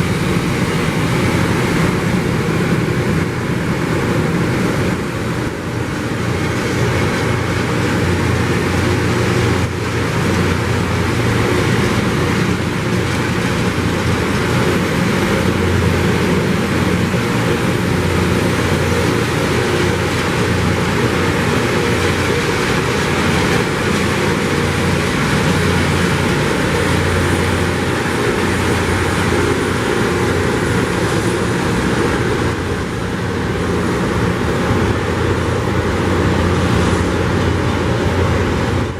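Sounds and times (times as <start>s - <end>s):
rail grinding roar: 0.0s - 38.9s.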